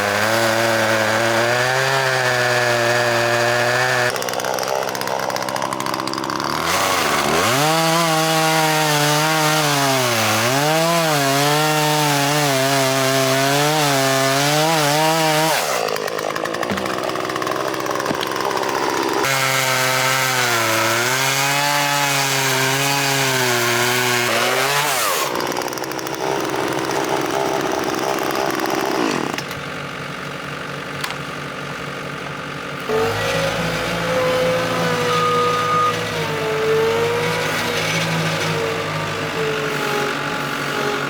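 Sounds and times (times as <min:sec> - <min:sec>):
chainsaw cutting at high revs: 0:00.0 - 0:41.0.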